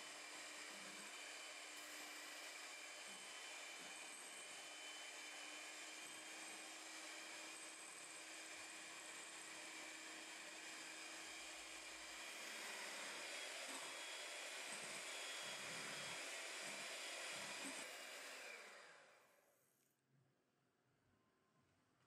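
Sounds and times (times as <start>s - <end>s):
electric hand mixer whirring: 0.0s - 19.3s.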